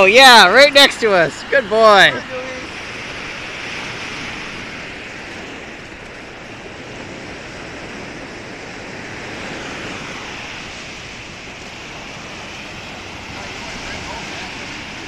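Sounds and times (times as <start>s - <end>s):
waves washing onto sandy shore: 0.0s - 15.0s.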